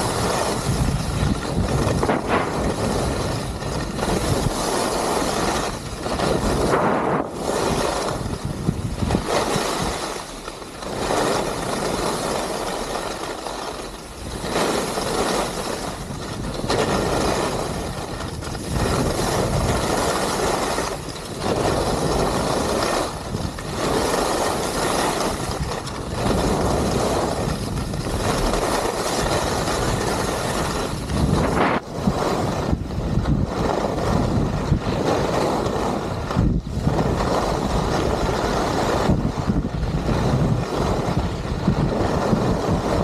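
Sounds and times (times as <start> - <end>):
skis scraping and hissing over snow: 0.0 - 43.0.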